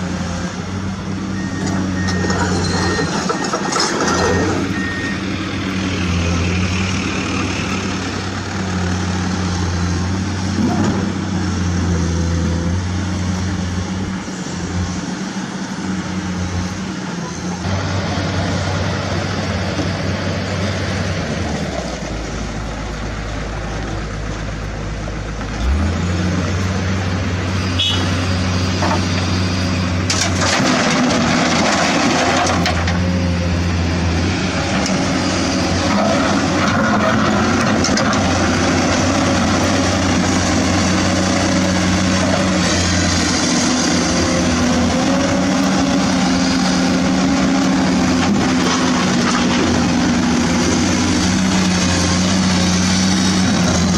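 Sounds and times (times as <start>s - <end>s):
heavy truck engines running: 0.0s - 53.9s.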